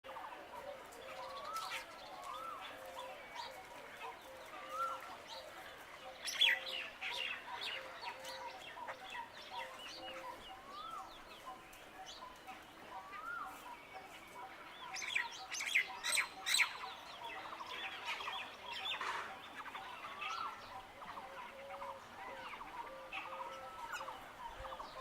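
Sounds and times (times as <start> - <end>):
birds chirping: 0.1 - 25.0.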